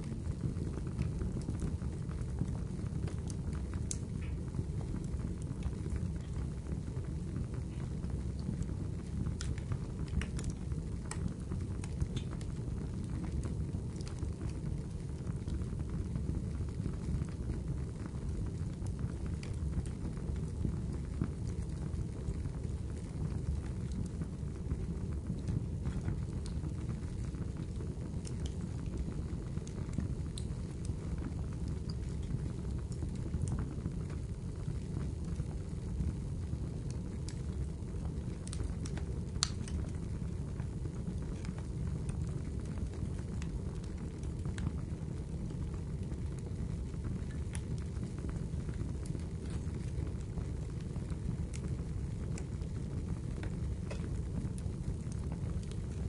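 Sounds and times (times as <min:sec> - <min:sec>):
rain: 0:00.0 - 0:56.0
sparse crackles and ticks: 0:00.0 - 0:56.0.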